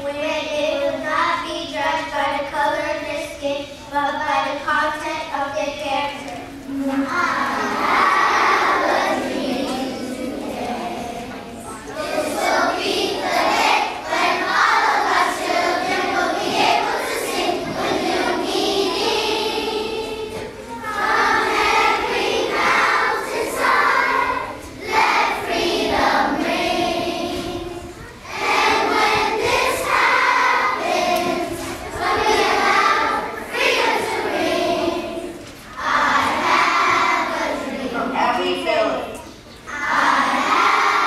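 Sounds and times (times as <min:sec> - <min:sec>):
children's choir singing: 0:06.1 - 0:38.5, 0:39.2 - 0:41.0.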